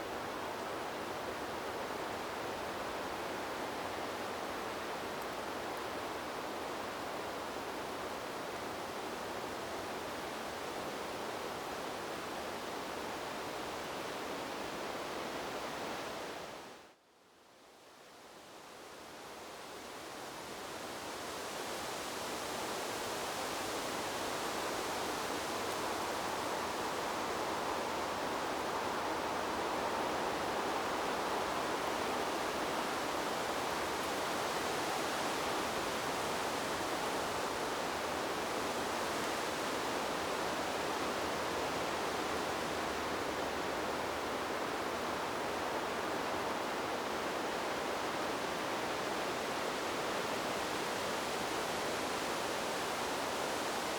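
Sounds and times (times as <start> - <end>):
wind in trees: 0.0 - 53.9.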